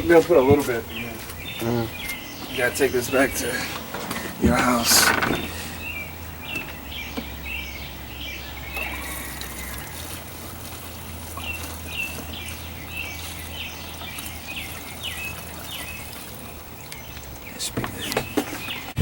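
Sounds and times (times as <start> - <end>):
fuel pouring with gurgling: 2.6 - 19.0.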